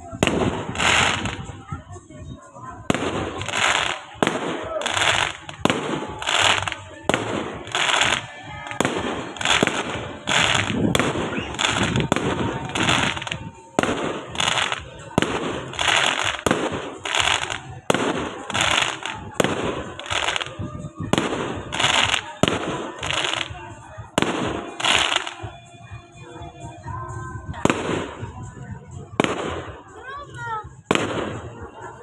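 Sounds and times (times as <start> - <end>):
fireworks bursting with sharp bangs: 0.0 - 30.0, 30.8 - 32.0.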